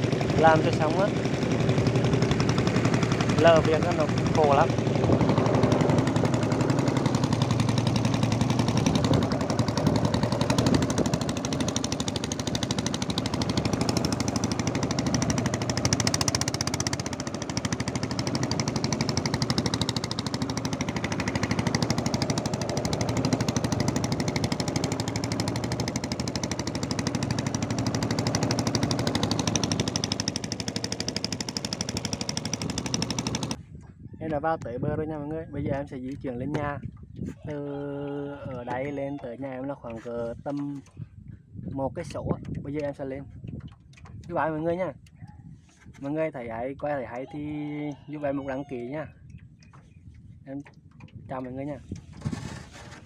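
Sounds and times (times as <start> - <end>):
boat engine running: 0.0 - 53.0.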